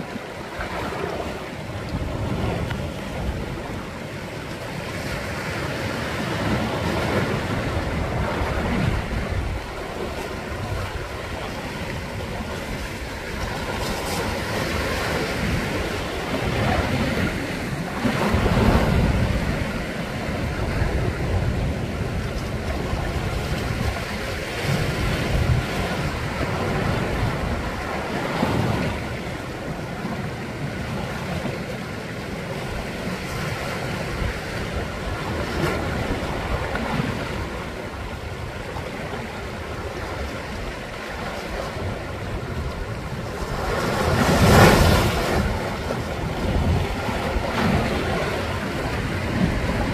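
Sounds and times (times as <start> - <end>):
waves washing against rocks: 0.0 - 49.9.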